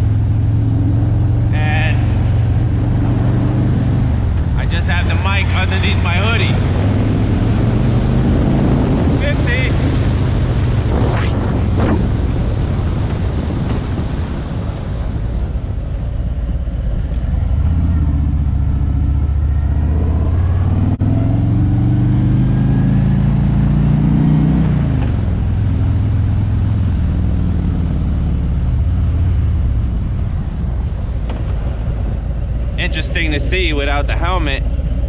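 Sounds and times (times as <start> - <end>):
motorcycle engine: 0.0 - 35.0
wind rumbling over microphone: 0.0 - 35.0.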